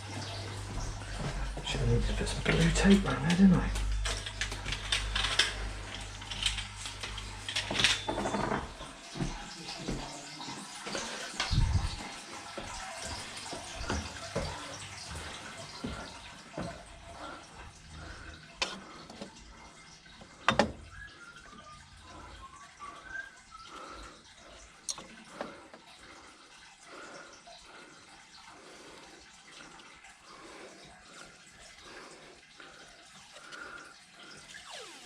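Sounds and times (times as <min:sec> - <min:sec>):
faint water trickle: 0:00.0 - 0:35.0.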